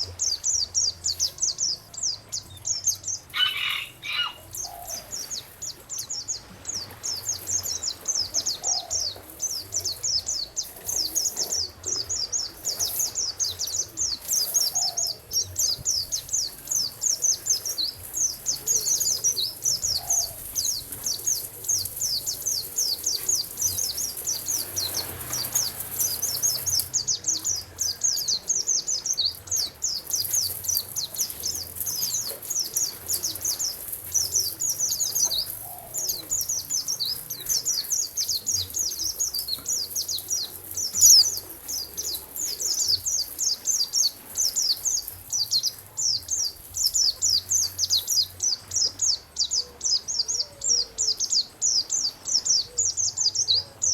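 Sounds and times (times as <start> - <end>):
faint steady hiss: 0.0 - 53.9
songbirds twittering: 0.0 - 53.9.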